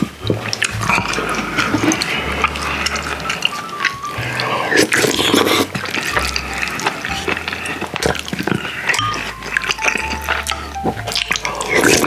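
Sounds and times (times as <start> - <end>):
mouth clicks and smacks: 0.0 - 12.0
slurping and wet chewing: 0.0 - 12.0.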